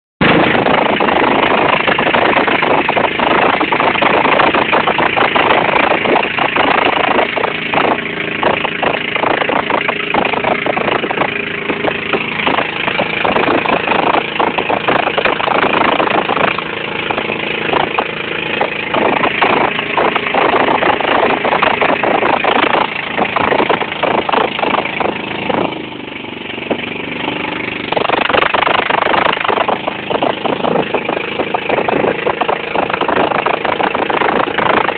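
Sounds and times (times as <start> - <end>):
boat engine running: 0.2 - 34.9
water rushing: 0.2 - 34.9
wind: 0.2 - 34.9.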